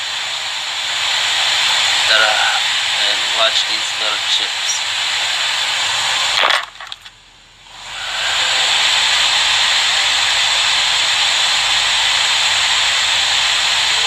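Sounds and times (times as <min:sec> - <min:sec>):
hot-air station hissing: 0:00.0 - 0:14.0.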